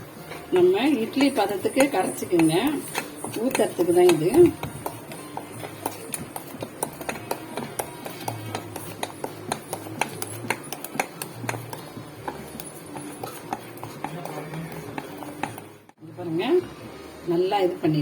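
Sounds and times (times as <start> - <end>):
batter stirred in a bowl: 0.0 - 16.0.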